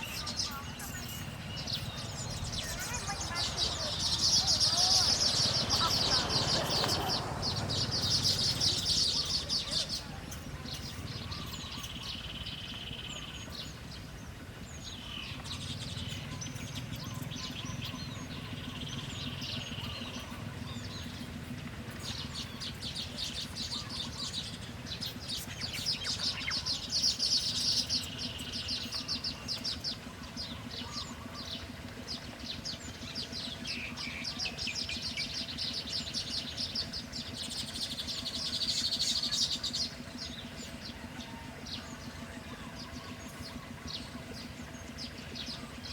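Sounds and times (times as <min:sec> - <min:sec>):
small birds chirping: 0:00.0 - 0:45.9
steady low hum: 0:00.0 - 0:45.9.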